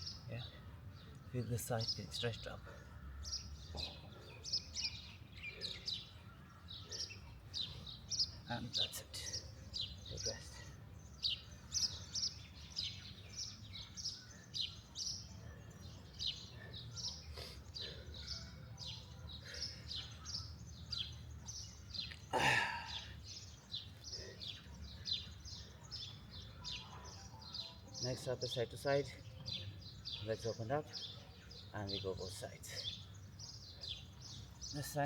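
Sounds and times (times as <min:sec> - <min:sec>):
wild birds chirping: 0:00.0 - 0:35.0.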